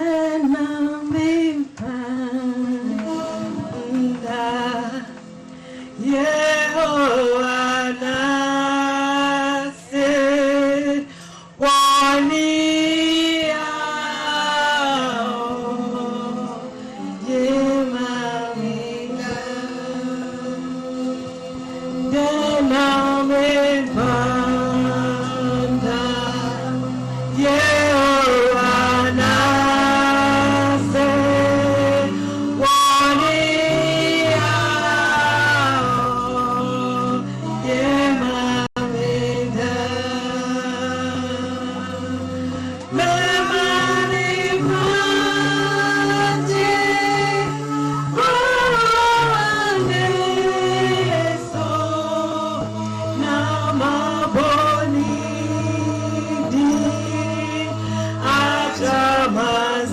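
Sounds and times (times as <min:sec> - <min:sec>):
choir singing gospel song: 0:00.0 - 0:05.3, 0:06.0 - 0:59.9.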